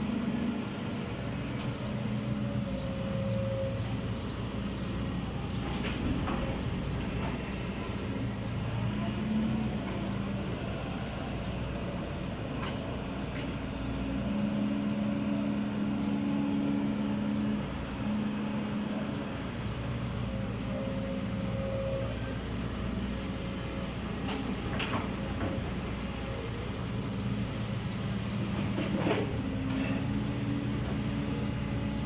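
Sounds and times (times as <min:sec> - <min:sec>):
diesel engine running and revving: 0:00.0 - 0:32.0.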